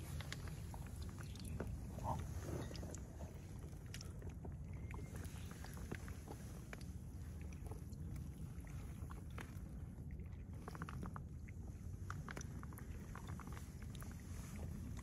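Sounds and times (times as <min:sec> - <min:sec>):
shallow water splashing and lapping: 0:00.0 - 0:15.0
small ticks and drips: 0:00.0 - 0:15.0
steady low rumble: 0:00.0 - 0:15.0.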